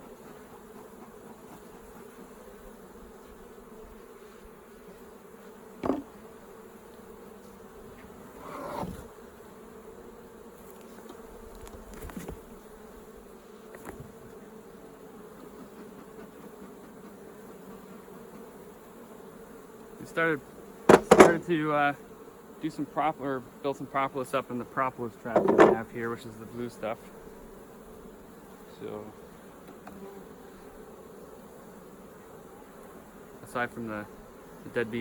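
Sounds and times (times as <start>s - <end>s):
honey bees buzzing: 0.0s - 35.0s.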